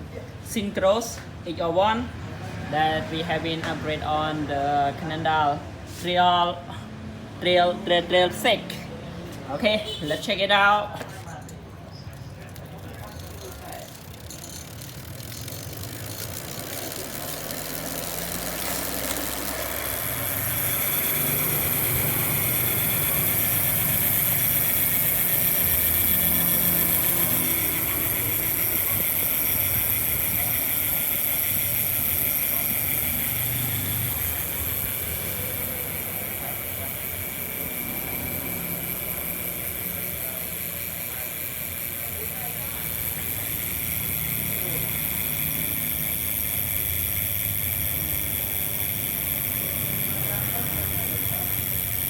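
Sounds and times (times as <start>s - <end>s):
bicycle freehub ratchet buzzing: 0.4s - 52.0s.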